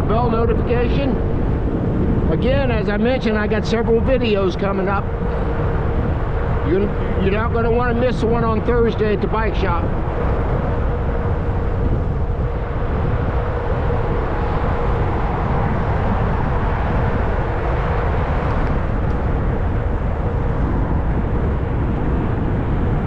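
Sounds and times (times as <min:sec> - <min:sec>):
faint steady hum: 0:00.0 - 0:23.0
wind and road noise: 0:00.0 - 0:23.0.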